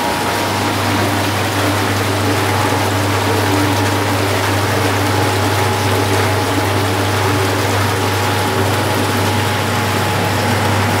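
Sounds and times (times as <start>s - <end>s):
jet pump humming: 0.0s - 11.0s
water churning and bubbling: 0.0s - 11.0s.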